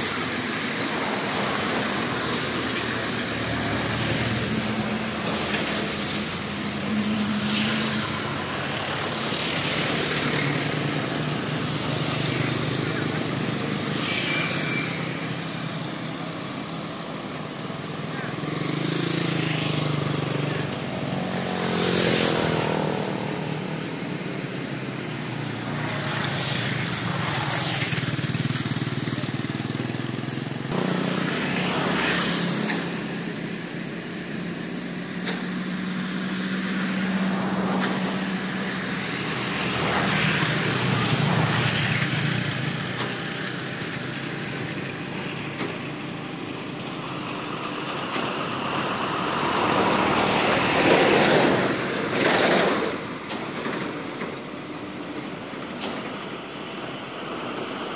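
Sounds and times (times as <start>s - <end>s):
cars passing: 0.0s - 57.9s
motorcycles passing: 0.0s - 57.9s.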